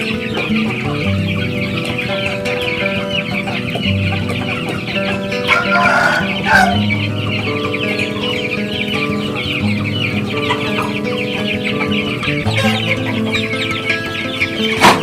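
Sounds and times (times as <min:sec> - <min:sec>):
chickens chattering: 0:00.0 - 0:15.0
music with low held notes: 0:00.0 - 0:15.0.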